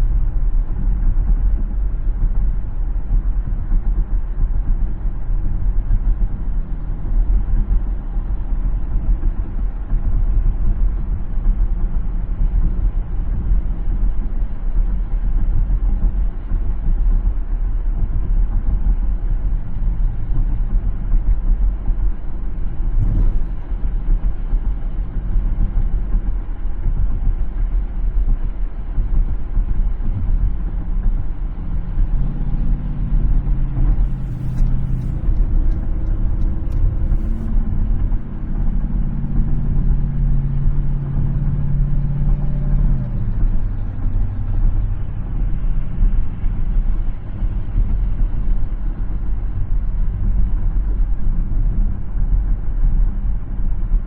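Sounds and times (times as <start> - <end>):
car rumbling on road: 0.0 - 54.0
engine hum: 0.0 - 54.0.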